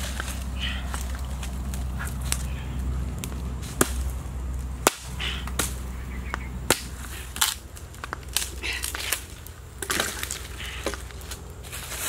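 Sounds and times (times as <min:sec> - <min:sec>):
dry branches cracking: 0:00.0 - 0:12.0
low hum: 0:00.0 - 0:12.0.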